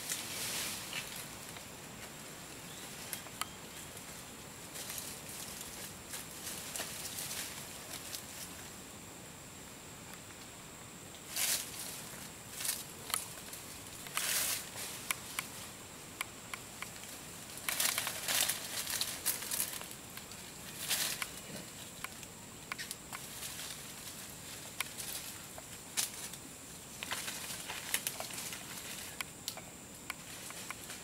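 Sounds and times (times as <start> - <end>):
leaves and twigs rustling: 0.0 - 9.0, 9.9 - 31.0.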